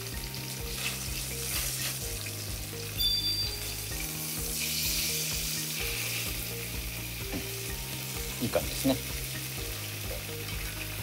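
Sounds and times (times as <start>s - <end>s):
tofu sizzling in a frying pan: 0.0s - 11.0s.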